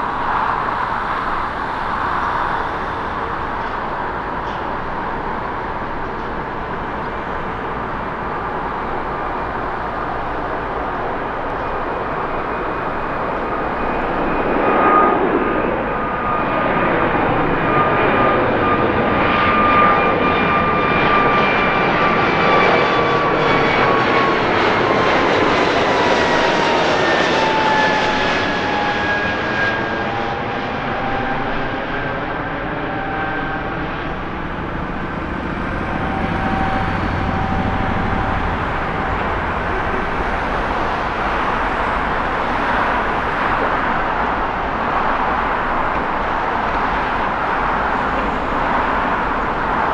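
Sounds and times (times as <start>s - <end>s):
jet engines whining at takeoff: 0.0s - 49.9s.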